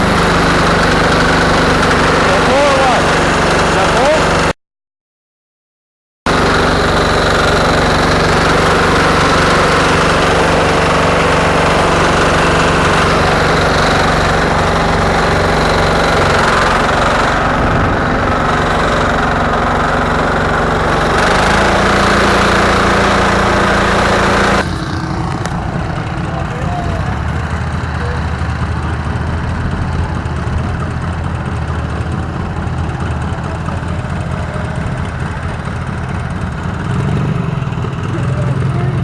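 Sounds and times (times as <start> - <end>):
garden tractor engine running: 0.0 - 4.5, 6.3 - 39.0.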